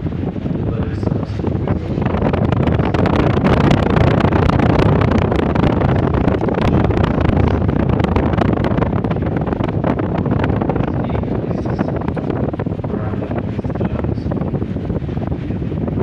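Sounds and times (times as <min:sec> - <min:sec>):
loud wind buffeting microphone: 0:00.0 - 0:16.0.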